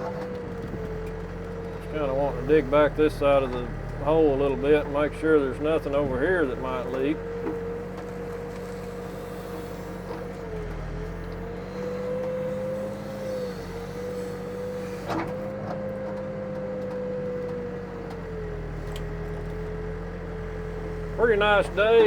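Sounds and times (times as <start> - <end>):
backhoe engine digging: 0.0 - 22.0.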